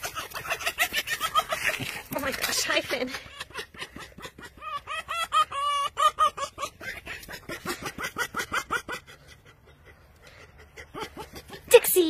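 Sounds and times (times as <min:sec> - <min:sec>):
fox chattering: 0:00.0 - 0:12.0.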